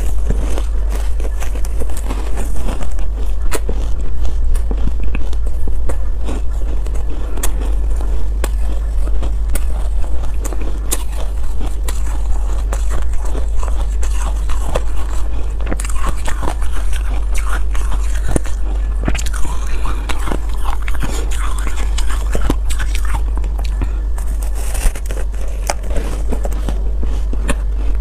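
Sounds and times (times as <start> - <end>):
ice being chewed: 0.0 - 28.0
steady low hum: 0.0 - 28.0.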